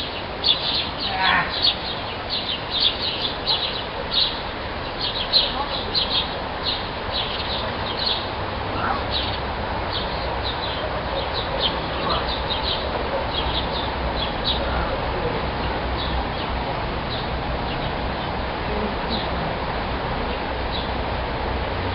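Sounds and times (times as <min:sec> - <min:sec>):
small birds chirping: 0:00.0 - 0:21.3
steady background hiss: 0:00.0 - 0:21.9.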